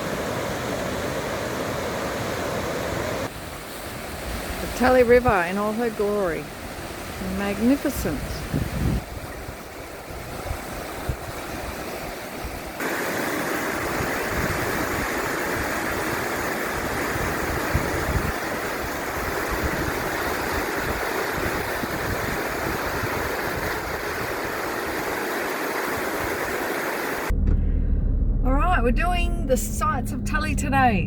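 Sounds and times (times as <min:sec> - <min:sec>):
river water rushing: 0:00.0 - 0:27.3.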